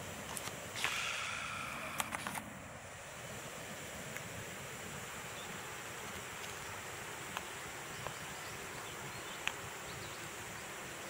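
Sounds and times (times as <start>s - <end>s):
high insect hum: 0.0s - 11.0s.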